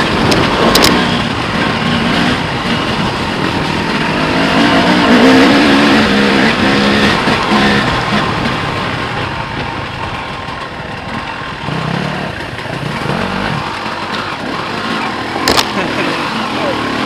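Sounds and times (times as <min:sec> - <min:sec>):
dirt bike engine: 0:00.0 - 0:17.0.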